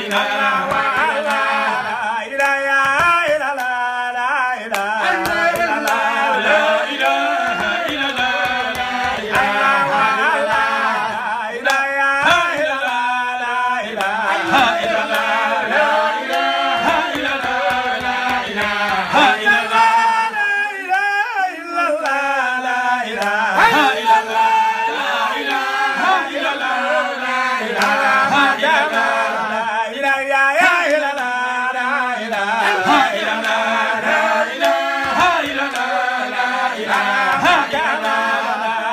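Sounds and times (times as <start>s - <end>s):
group chanting a devotional song: 0.0s - 38.9s.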